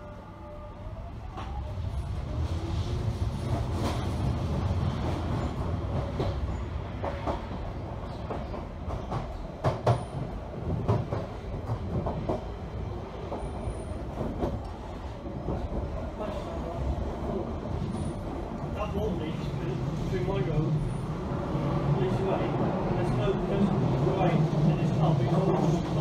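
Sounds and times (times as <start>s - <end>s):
train running rumble: 1.2s - 26.0s.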